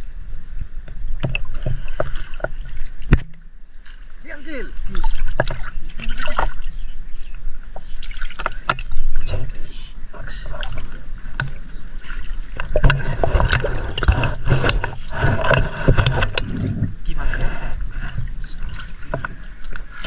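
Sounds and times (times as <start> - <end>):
river water lapping: 0.0 - 20.0
splashes of people wading: 1.2 - 20.0.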